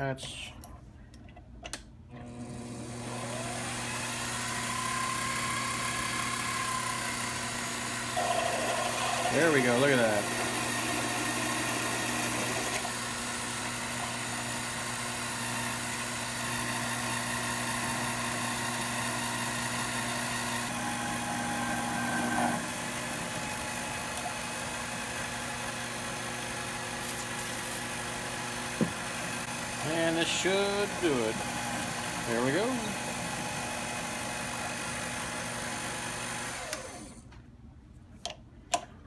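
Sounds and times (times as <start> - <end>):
lathe motor hum: 2.2 - 37.2
drill boring into steel: 2.3 - 37.2.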